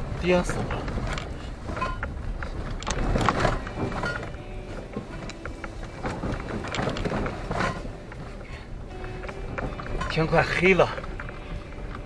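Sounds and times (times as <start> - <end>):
vehicle cabin road rumble: 0.0 - 12.0
vehicle knocks and rattles: 0.0 - 12.0.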